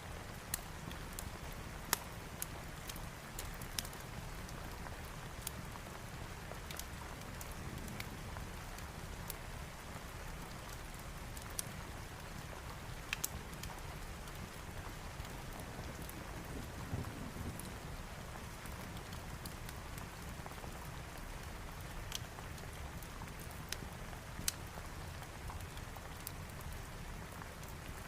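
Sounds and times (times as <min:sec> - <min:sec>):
steady rain: 0:00.0 - 0:28.0
crackles and pops: 0:00.1 - 0:09.4, 0:10.0 - 0:28.0.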